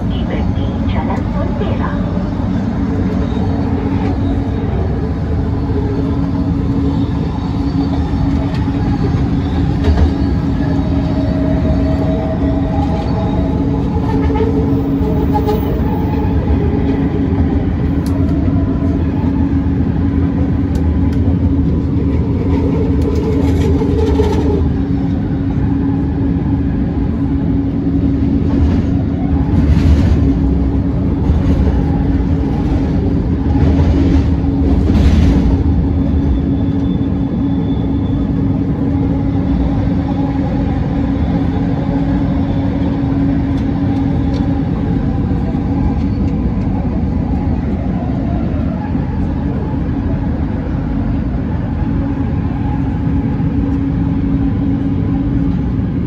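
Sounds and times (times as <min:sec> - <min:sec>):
train hum: 0:00.0 - 0:56.0
wheels rumbling on rails: 0:00.0 - 0:56.0.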